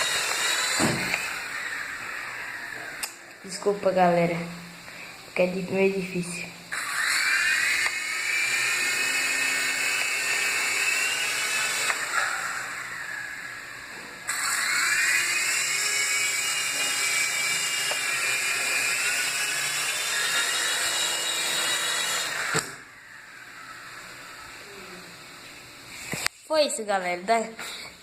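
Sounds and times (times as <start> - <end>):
toy helicopter motor whining: 0.0 - 3.9, 6.2 - 25.2.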